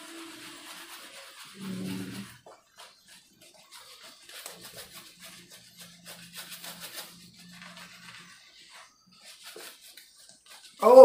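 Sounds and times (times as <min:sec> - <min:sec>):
shaving brush swishing: 0:00.0 - 0:11.0.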